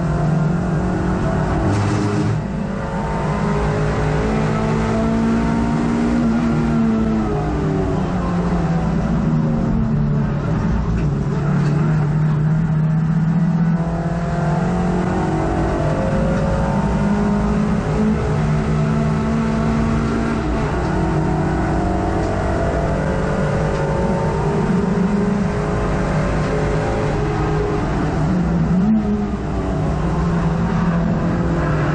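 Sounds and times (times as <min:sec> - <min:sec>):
race car engine revving: 0:00.0 - 0:31.9.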